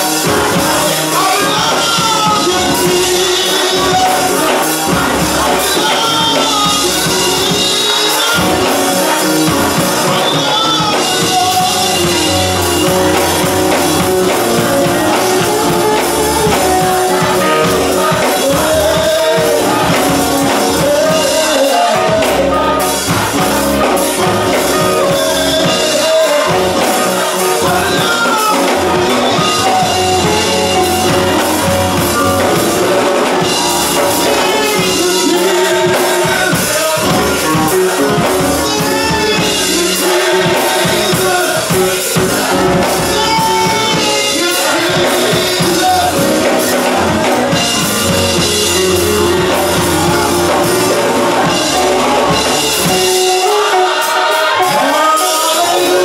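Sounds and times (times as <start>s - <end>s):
choir singing gospel song: 0.0s - 56.0s
instrumental backing: 0.0s - 56.0s
steady bass line: 0.0s - 56.0s.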